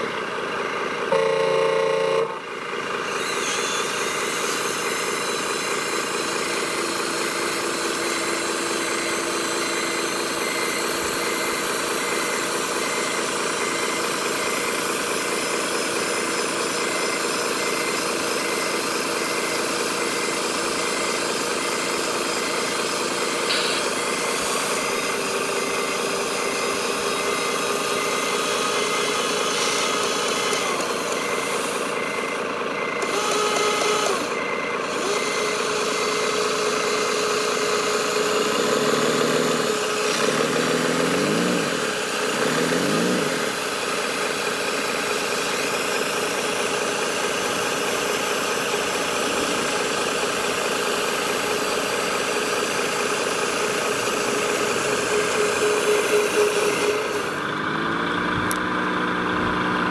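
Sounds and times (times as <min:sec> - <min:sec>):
toy truck engine running: 0:00.0 - 0:59.9.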